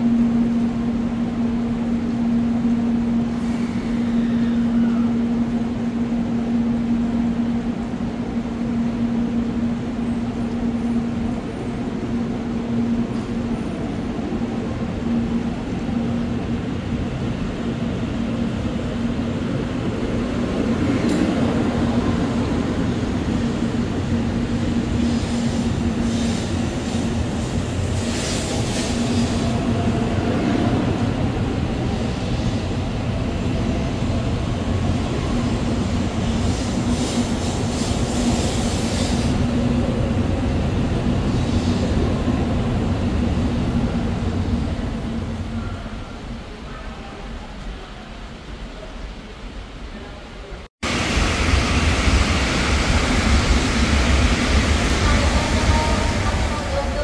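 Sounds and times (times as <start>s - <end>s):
train passing with electric hum: 0.0s - 57.0s.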